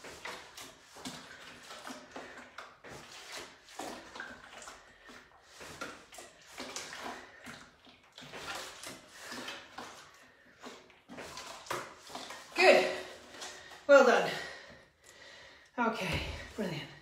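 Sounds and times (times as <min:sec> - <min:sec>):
water sloshing in plastic container: 0:00.0 - 0:17.0.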